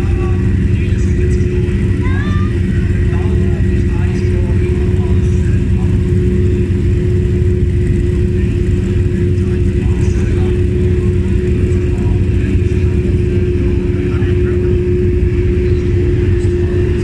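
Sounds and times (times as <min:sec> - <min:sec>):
race car engine idling: 0:00.0 - 0:17.0.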